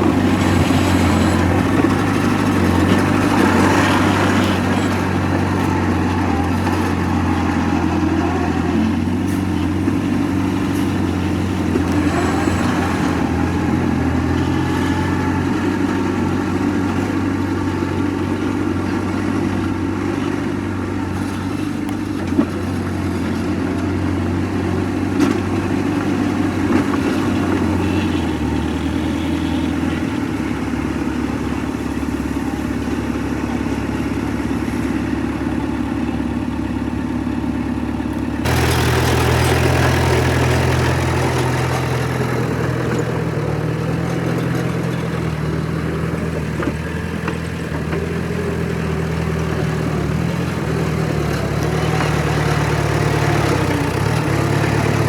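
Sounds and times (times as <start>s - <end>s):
heavy machinery diesel engine: 0.0s - 55.0s.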